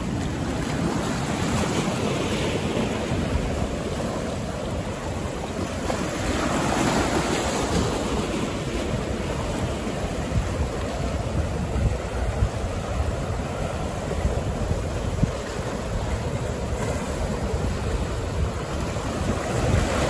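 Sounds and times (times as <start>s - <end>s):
sea waves breaking on shore: 0.0s - 20.0s
wind rumbling on microphone: 0.0s - 20.0s.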